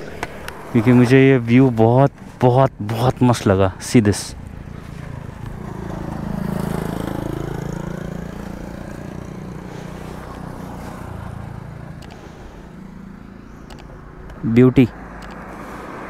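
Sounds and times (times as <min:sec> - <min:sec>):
vehicle driving past: 0:00.0 - 0:03.4, 0:04.1 - 0:16.0.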